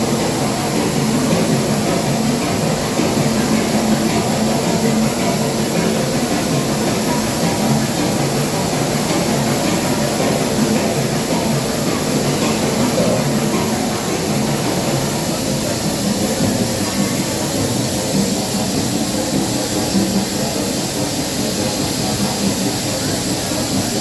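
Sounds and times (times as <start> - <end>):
hiss: 0.0 - 24.0.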